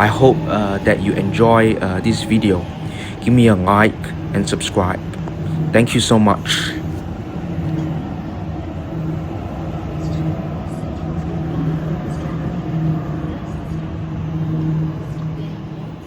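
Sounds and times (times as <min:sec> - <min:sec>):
background rumble: 0:00.0 - 0:16.0
train humming: 0:00.0 - 0:16.0.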